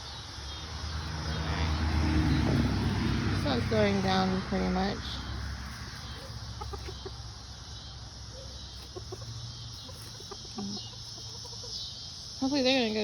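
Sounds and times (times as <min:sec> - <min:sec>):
chickens clucking: 0:00.8 - 0:13.0.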